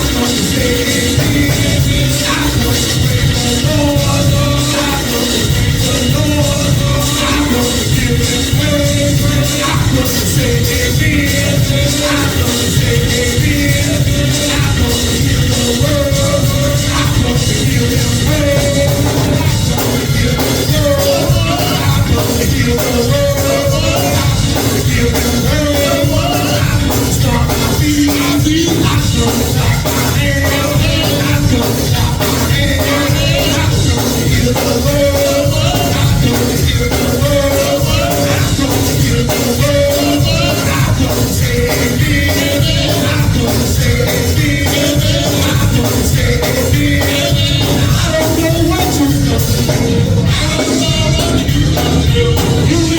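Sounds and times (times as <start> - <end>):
gospel music with singing: 0.0 - 52.9.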